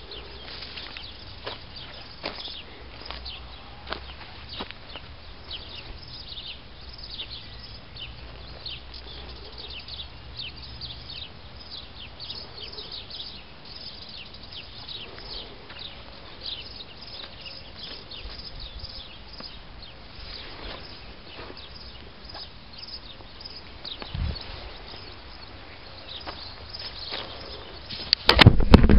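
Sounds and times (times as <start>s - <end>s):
birds chirping: 0.0s - 28.3s.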